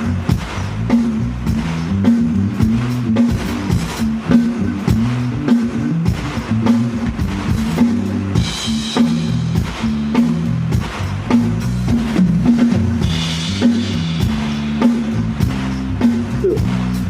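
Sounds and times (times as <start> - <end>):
drum kit steady beat: 0.0 - 17.0
live band playing: 0.0 - 17.0.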